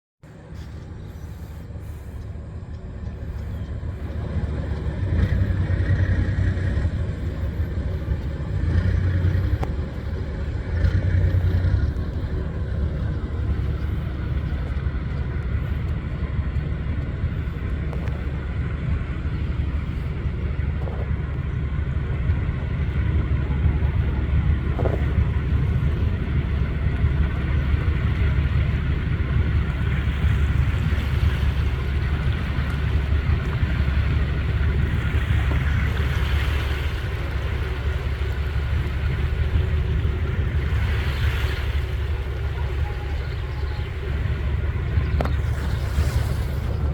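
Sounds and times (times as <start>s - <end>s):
boat engine rumbling: 0.2s - 46.9s.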